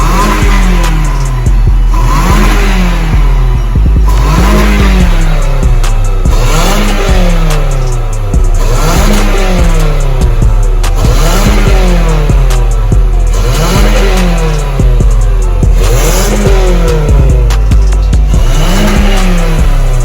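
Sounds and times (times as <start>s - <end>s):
background music with heavy bass: 0.0s - 20.0s.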